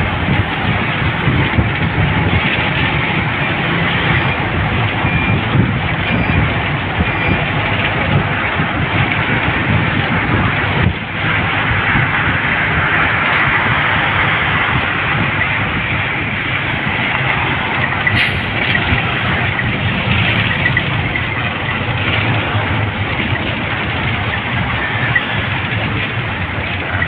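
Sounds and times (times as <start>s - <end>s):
vehicle rumbling along road: 0.0s - 27.0s.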